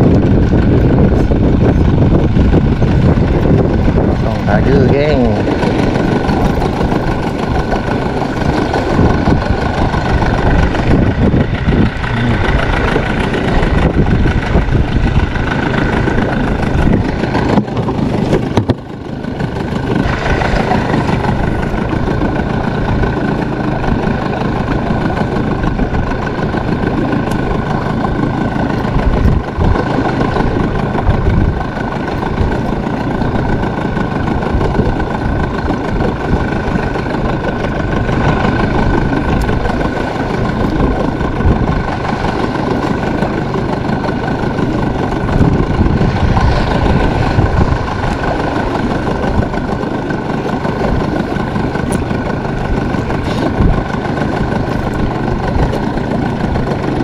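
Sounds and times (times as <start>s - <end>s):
boat motor whining: 0.0s - 57.0s
heavy low rumble: 0.0s - 57.0s.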